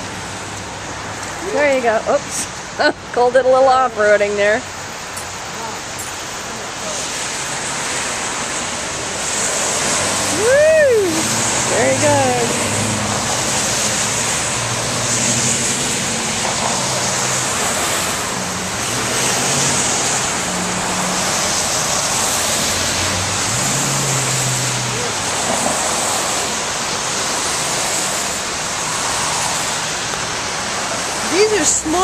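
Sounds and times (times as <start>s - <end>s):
road traffic rushing: 0.0s - 32.0s.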